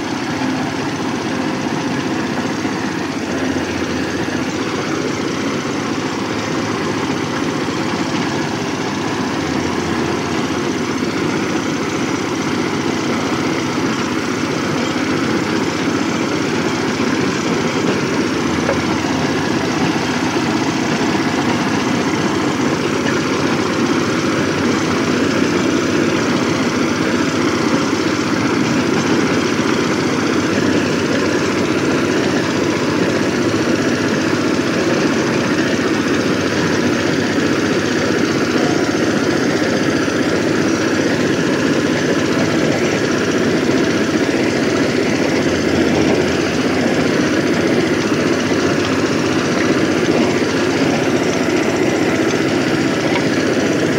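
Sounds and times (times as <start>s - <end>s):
diesel engine chugging: 0.0s - 53.9s.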